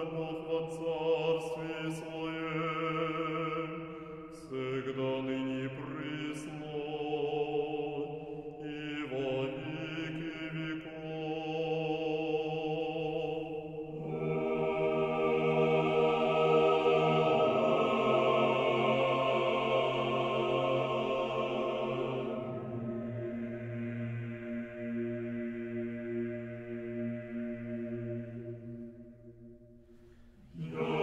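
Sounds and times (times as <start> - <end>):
choir singing a cappella: 0.0 - 31.0.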